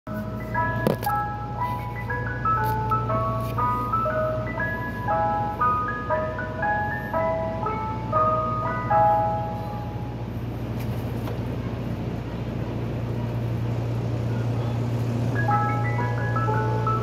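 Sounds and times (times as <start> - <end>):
ice cream truck chime jingle: 0.1 - 10.8, 11.4 - 17.0
low engine hum: 0.1 - 17.0.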